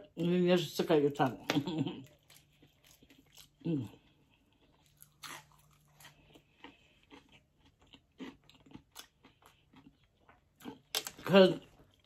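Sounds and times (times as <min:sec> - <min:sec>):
crunchy food chewing: 0:01.2 - 0:12.0.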